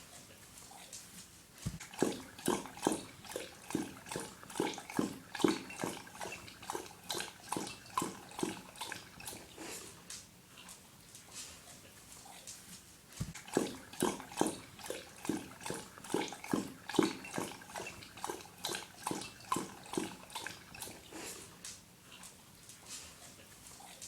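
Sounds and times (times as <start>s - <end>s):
dog lapping water: 1.6s - 10.1s, 13.2s - 24.0s.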